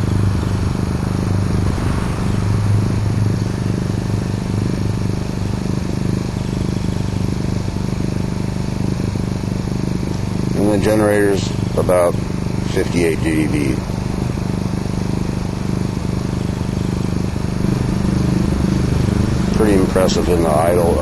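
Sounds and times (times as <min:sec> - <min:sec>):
generator engine idling: 0:00.0 - 0:21.0.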